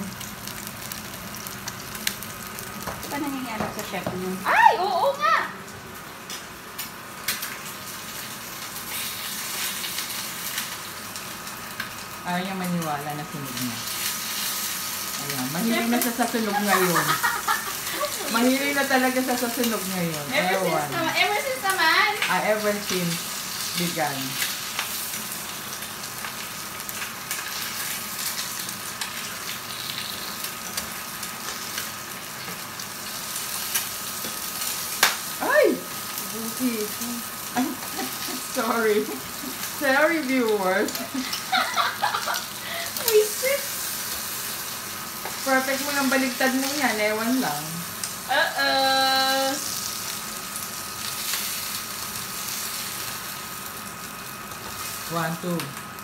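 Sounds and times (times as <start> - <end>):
eggs sizzling in a pan: 0.0 - 56.0.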